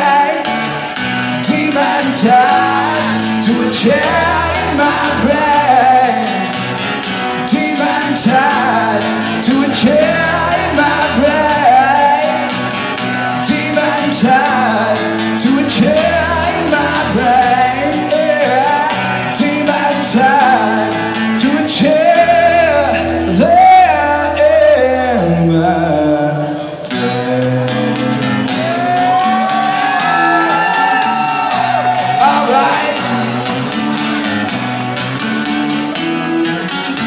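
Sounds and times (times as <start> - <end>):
man singing: 0.0 - 34.4
strummed acoustic guitar: 0.0 - 37.0.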